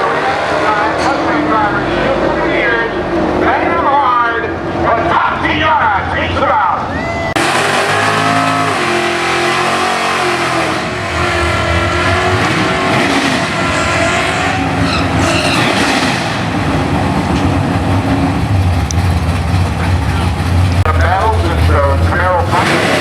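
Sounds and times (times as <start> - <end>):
racing car engines at full throttle: 0.0 - 23.0.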